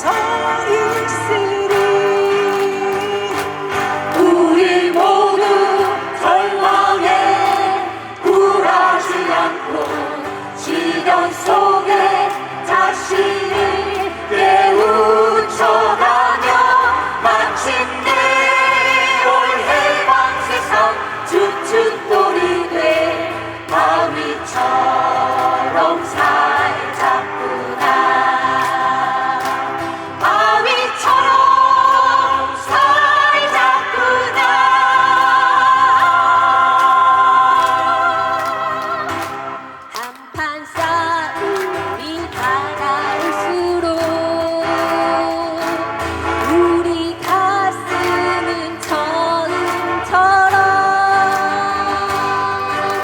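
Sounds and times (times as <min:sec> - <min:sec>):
keyboard and guitar accompaniment: 0:00.0 - 0:53.0
mixed choir singing: 0:00.0 - 0:53.0.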